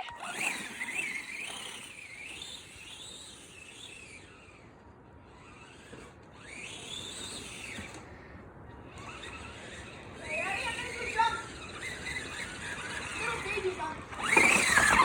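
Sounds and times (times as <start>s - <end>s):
electric rc car motor whining: 0.0s - 15.0s.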